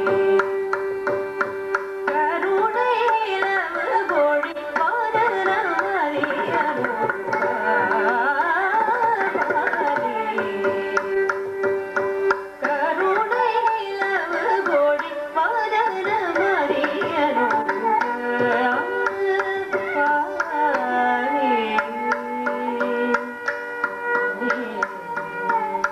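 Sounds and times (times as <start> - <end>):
violin: 0.0 - 25.9
woman singing: 2.0 - 11.4, 12.6 - 25.9.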